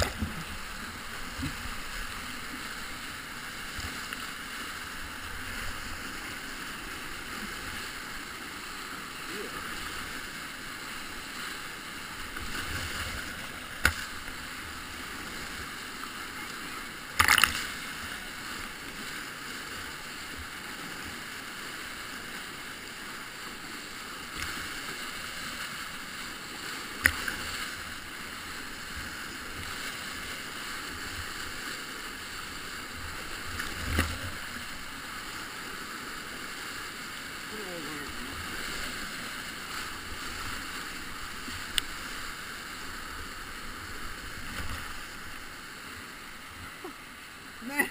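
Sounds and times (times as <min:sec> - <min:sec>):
whitewater rapids rushing: 0:00.0 - 0:47.9.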